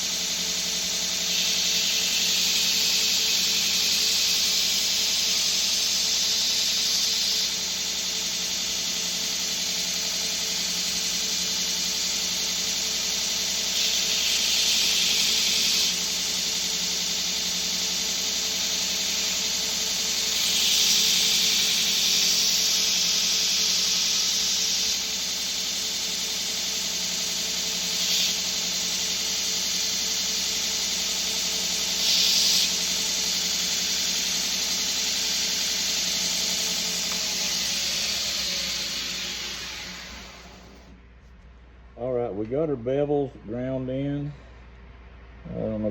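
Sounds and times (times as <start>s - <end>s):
steel blade grinding hiss: 0.0s - 40.8s
belt grinder motor hum: 0.0s - 40.9s.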